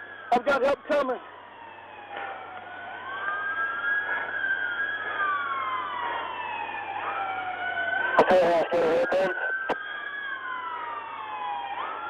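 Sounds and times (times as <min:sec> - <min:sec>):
police sirens wailing: 0:00.0 - 0:12.0.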